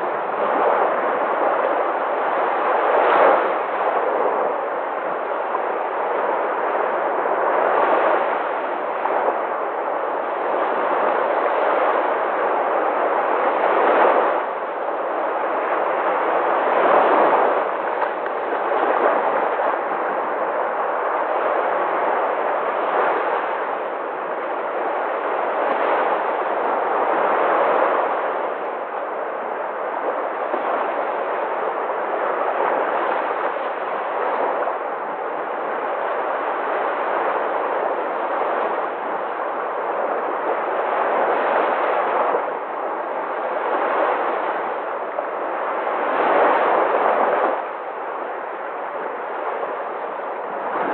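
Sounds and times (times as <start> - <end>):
sea waves breaking ashore: 0.0 - 50.9.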